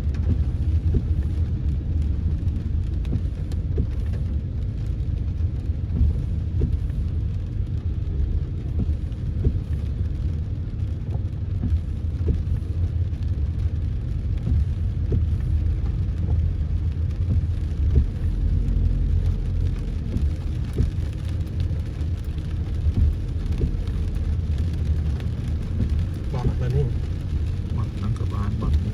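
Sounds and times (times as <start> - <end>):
car engine and road noise: 0.0 - 28.9
rain tapping on car: 0.0 - 28.9.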